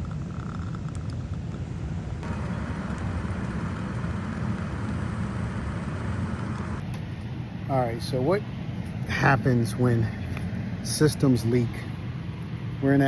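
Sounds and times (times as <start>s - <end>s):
air conditioning hum: 0.0s - 13.0s.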